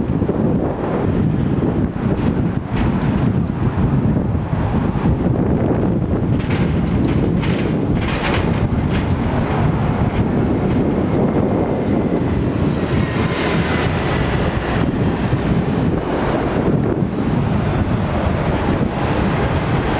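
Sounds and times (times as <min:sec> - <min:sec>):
tram rumbling on tracks: 0:00.0 - 0:19.9
wind buffeting microphone: 0:00.0 - 0:19.9.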